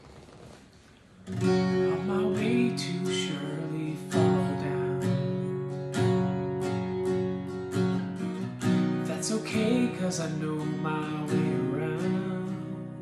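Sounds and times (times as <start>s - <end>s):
acoustic guitar strumming: 1.1s - 13.0s.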